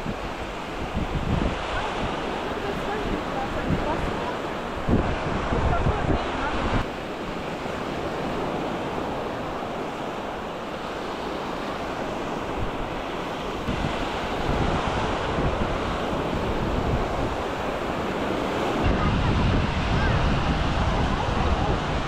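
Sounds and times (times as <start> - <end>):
small waves washing onto shore: 0.0 - 22.0
wind buffeting microphone: 0.0 - 22.0.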